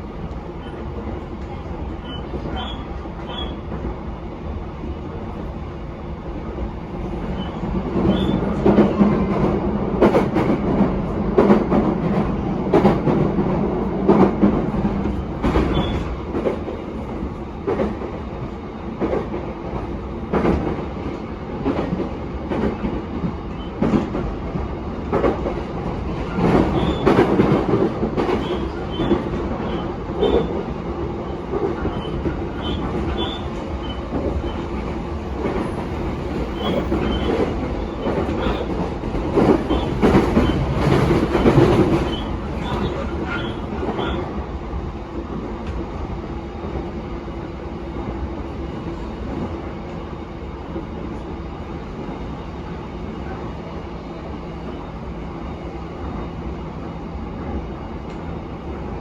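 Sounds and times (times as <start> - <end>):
electric train rumbling: 0.0 - 59.0.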